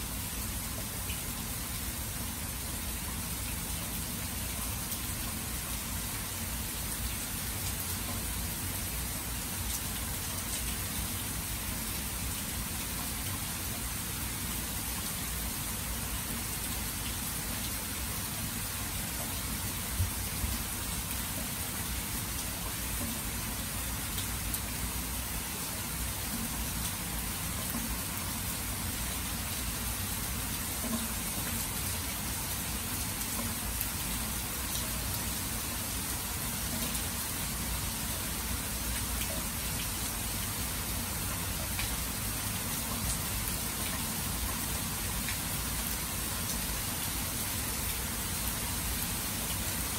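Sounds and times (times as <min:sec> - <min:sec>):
rain falling on grass and water: 0:00.0 - 0:49.9.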